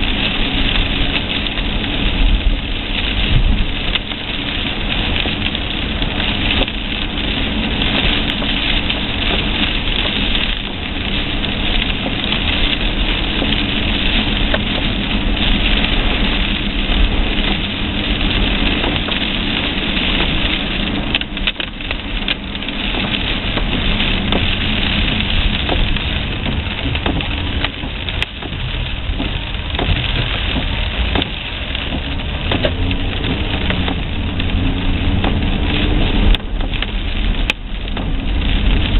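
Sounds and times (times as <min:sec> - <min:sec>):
car engine hum: 0:00.0 - 0:38.9
rain hissing: 0:00.0 - 0:38.9
tyres on wet road: 0:00.0 - 0:38.9.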